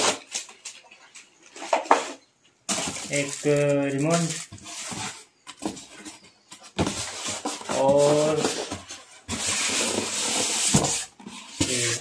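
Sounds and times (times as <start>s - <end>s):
polystyrene scraping cardboard: 0.0s - 12.0s.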